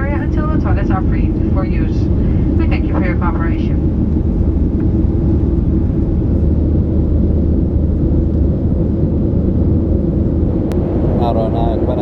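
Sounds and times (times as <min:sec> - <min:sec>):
airflow over fuselage: 0:00.0 - 0:12.0
jet engine drone: 0:00.0 - 0:12.0.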